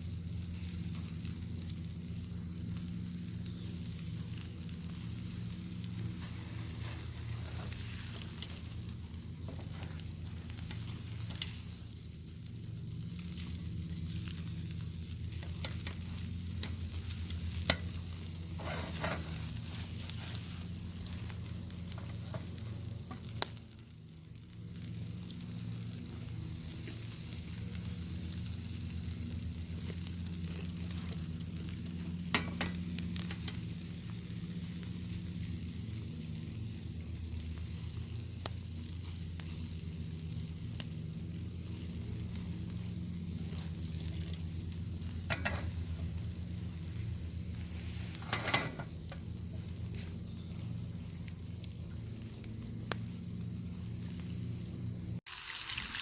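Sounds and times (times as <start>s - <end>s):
bacon sizzling over fire: 0.0s - 56.0s.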